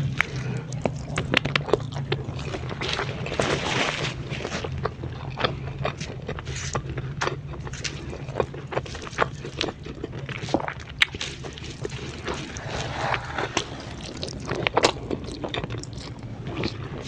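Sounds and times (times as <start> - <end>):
low hum: 0.0 - 17.0
person chewing and crunching: 0.0 - 17.0.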